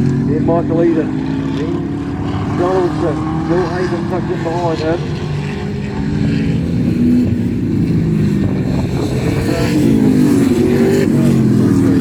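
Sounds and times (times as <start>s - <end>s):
racing car engines passing: 0.0s - 12.0s.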